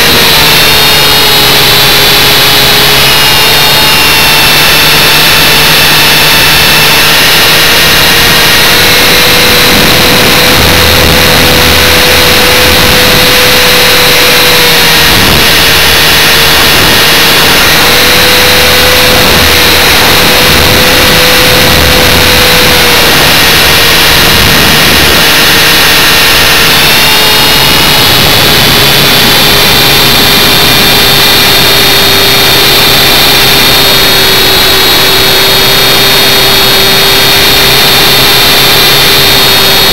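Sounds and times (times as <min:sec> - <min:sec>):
heavy rushing noise: 0:00.0 - 0:39.9
motor whining: 0:00.0 - 0:39.9.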